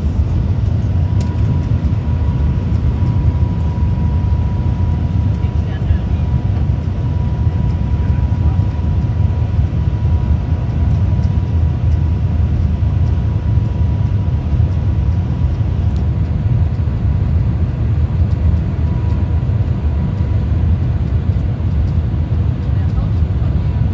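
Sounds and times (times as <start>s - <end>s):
high-speed train rumbling: 0.0s - 23.9s
thin steady whine: 0.0s - 23.9s.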